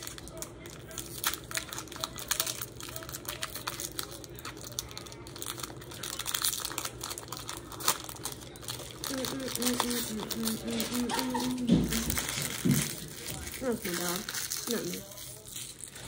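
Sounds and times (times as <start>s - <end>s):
foil wrappers crinkling: 0.0s - 16.0s
trading cards being handled: 0.0s - 16.0s.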